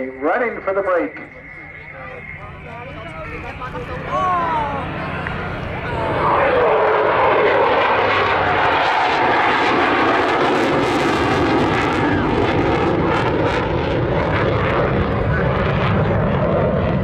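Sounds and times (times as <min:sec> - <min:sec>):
aircraft engine roar: 0:00.0 - 0:17.0.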